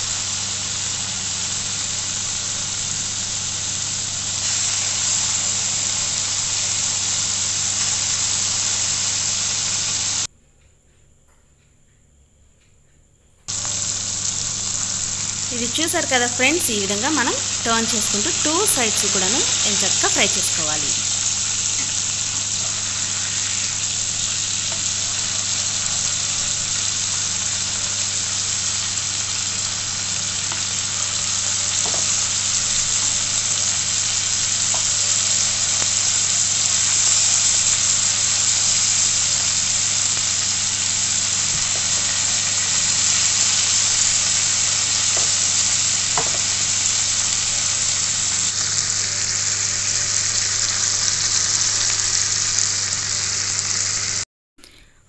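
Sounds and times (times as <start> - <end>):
meat sizzling in butter: 0.0 - 10.3, 13.5 - 54.2.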